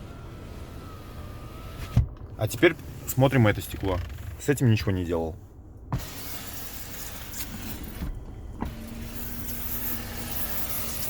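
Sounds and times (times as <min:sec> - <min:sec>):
power window motor hum: 0:00.0 - 0:04.4, 0:06.0 - 0:11.0.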